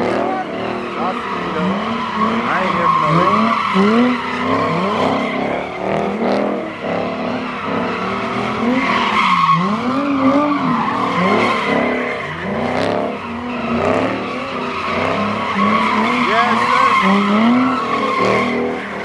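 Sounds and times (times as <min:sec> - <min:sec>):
car engines revving: 0:00.0 - 0:19.0
tires squealing on pavement: 0:00.0 - 0:19.0.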